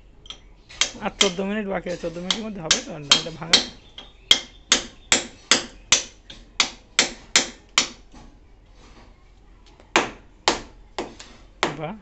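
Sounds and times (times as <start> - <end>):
hammer striking chisel: 0.2 - 8.0, 9.9 - 11.8.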